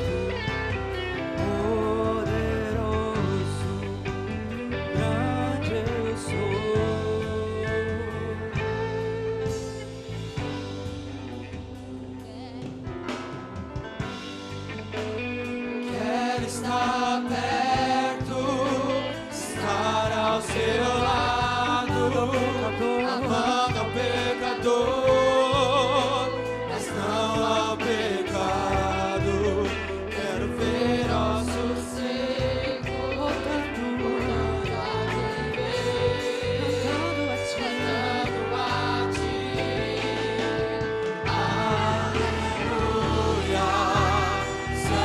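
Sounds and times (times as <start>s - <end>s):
live band with bass and drums: 0.0s - 45.0s
vocal group singing gospel: 0.0s - 45.0s.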